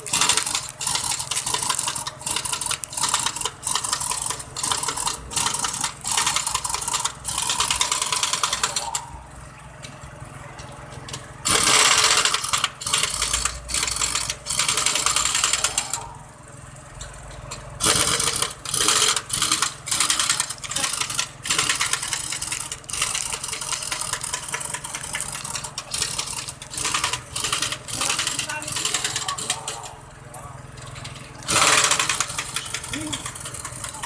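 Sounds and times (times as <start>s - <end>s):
pneumatic impact wrench hammering: 0.0s - 9.0s, 11.4s - 16.0s, 17.8s - 30.0s, 31.4s - 34.0s
steady low hum: 0.0s - 34.0s.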